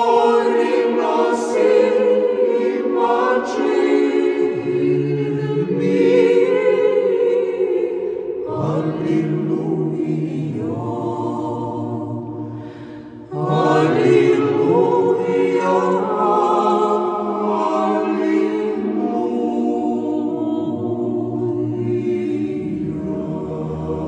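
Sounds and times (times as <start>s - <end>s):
choir singing a cappella chant: 0.0s - 24.0s.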